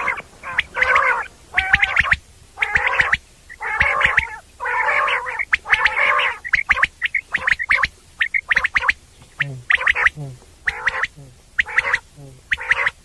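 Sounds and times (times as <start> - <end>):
quail clicking notes: 0.0 - 13.0
quail raspy calls: 0.0 - 13.0.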